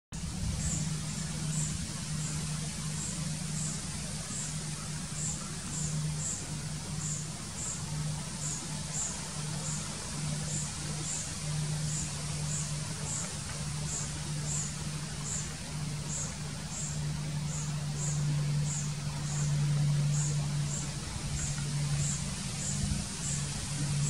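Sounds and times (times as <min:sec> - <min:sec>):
low hum: 0:00.1 - 0:24.0.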